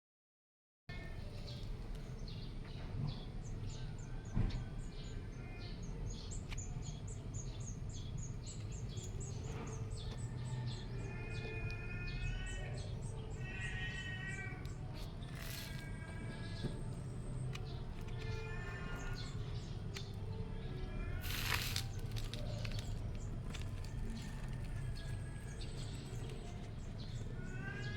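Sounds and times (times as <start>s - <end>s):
bird calls of several tones: 0.9s - 27.9s
birds chirping: 0.9s - 27.9s.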